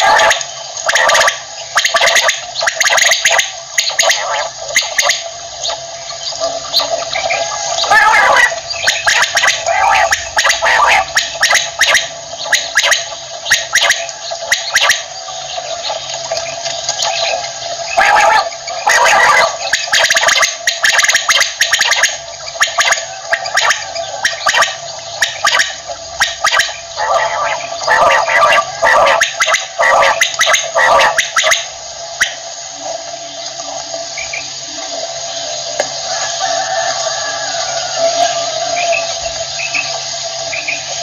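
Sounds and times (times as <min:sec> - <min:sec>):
quail calling: 0:00.0 - 0:33.0.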